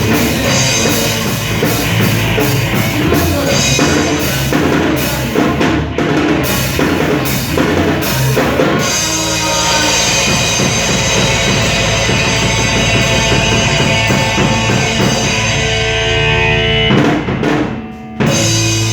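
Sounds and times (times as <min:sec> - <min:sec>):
held guitar chords: 0:00.0 - 0:18.9
rock music with drums: 0:00.0 - 0:18.9.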